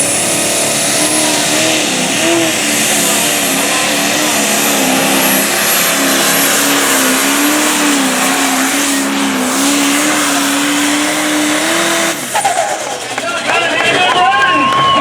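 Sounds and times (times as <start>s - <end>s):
diesel tractor engine at full throttle: 0.0s - 15.0s.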